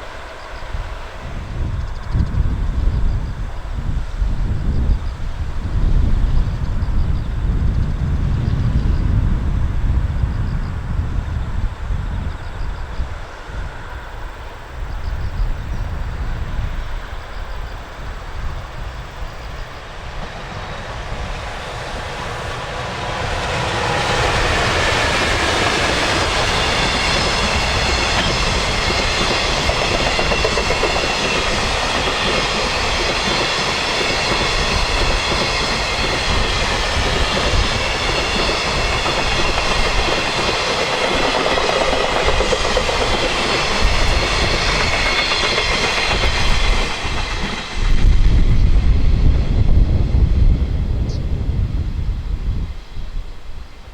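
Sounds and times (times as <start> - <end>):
train wheels on rails: 0.0 - 50.9.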